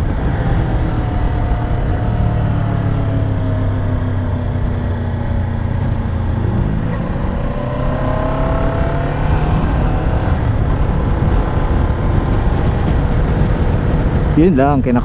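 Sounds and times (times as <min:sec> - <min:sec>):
motorcycle engine running: 0:00.0 - 0:14.7
wind rushing: 0:00.0 - 0:15.0.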